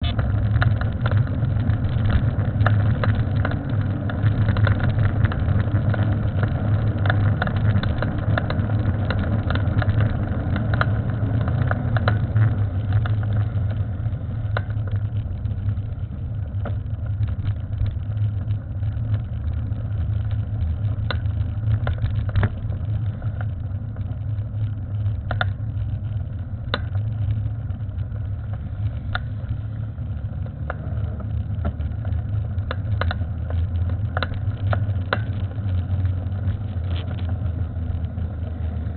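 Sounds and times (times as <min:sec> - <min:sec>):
sharp clicks and knocks: 0:00.0 - 0:38.8
bicycle riding rumble: 0:00.0 - 0:38.9.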